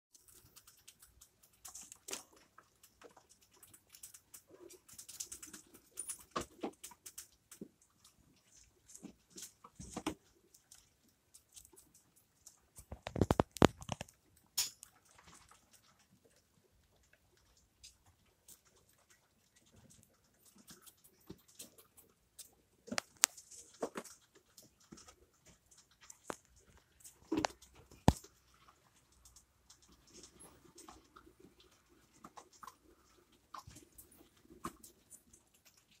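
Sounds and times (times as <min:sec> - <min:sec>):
rat pups scrambling in cage: 0:00.1 - 0:36.0.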